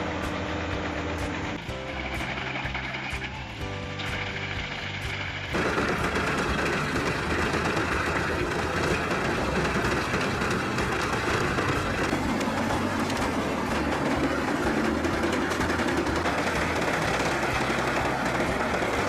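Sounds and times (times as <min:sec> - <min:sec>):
heavy machine engine: 0:00.0 - 0:19.0
loud grinding and rattling: 0:00.0 - 0:19.0.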